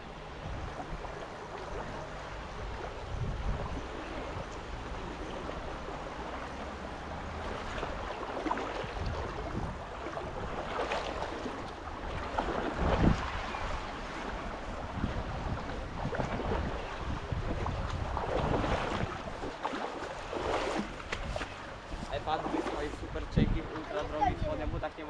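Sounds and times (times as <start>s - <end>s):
river water rushing: 0.0s - 25.0s
wind buffeting microphone: 0.0s - 25.0s.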